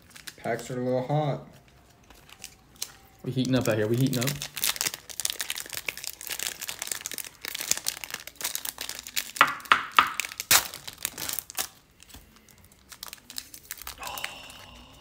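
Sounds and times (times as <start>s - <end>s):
foil wrapper crinkling: 0.0s - 14.9s.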